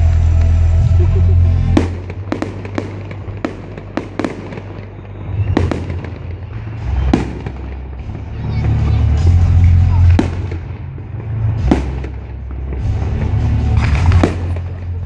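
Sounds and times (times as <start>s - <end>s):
fireworks bursting with bangs: 0.0s - 15.0s
fireworks crackle: 0.0s - 15.0s
music with deep bass: 0.0s - 15.0s.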